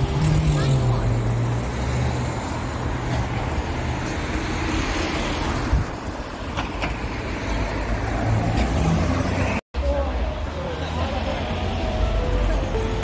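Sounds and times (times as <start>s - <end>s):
cars driving along street: 0.0s - 13.0s.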